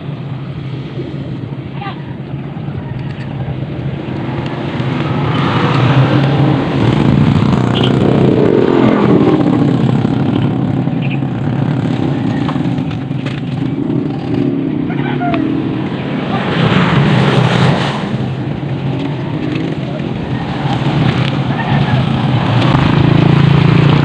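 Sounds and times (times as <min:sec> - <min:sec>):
motor engine passing by: 0:04.6 - 0:24.0.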